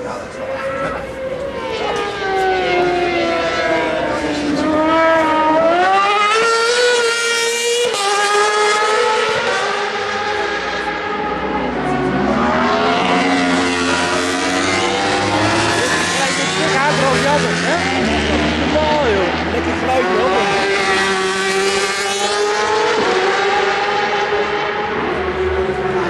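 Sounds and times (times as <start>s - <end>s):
racing motorcycle engines passing: 0.0s - 26.0s.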